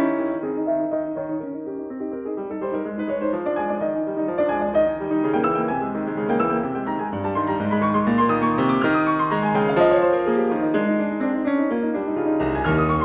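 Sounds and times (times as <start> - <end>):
piano tune of held notes: 0.0 - 13.0.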